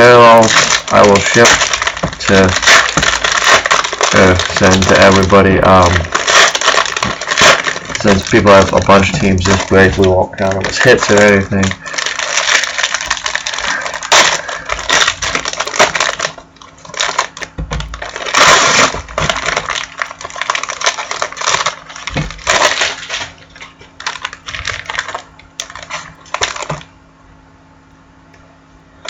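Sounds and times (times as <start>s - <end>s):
wrappers crinkling: 0.0s - 26.9s.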